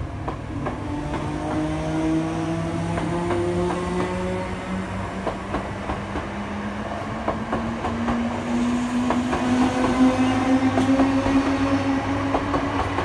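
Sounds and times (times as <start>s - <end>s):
train wheels clicking on rail joints: 0.0s - 13.0s
train whine rising in pitch: 0.9s - 13.0s.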